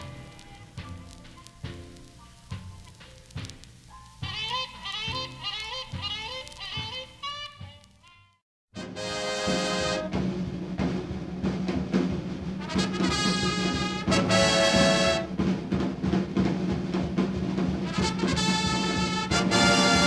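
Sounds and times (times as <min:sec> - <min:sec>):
music with long held notes: 0:00.0 - 0:20.0.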